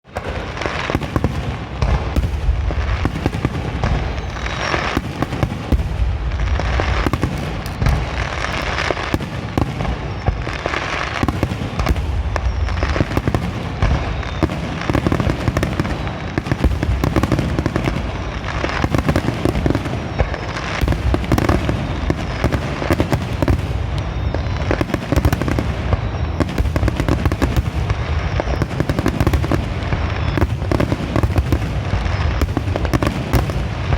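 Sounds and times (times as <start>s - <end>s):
fireworks crackling: 0.0s - 33.9s.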